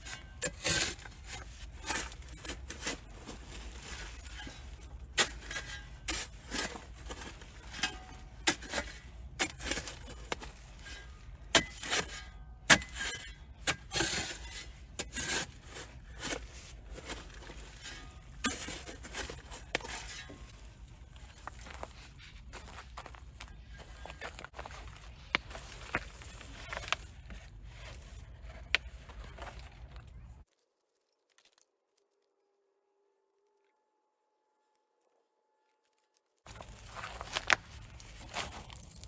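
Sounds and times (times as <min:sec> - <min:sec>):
hand scraping soil: 0:00.0 - 0:31.0, 0:36.5 - 0:39.0.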